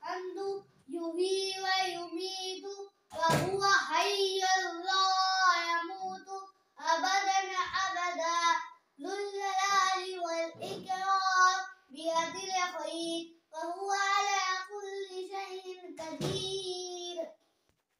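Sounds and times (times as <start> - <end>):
boy chanting melodic recitation: 0.0 - 17.3.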